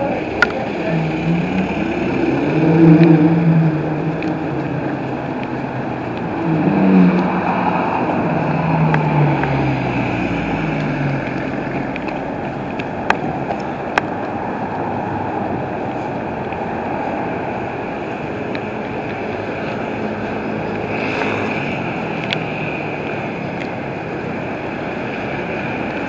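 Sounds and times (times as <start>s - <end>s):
boat engines humming: 0.0s - 26.0s
wind and water rushing: 0.0s - 26.0s.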